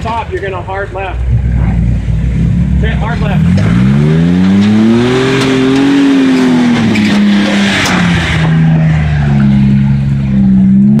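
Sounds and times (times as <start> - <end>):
engine working under load: 0.0 - 11.0.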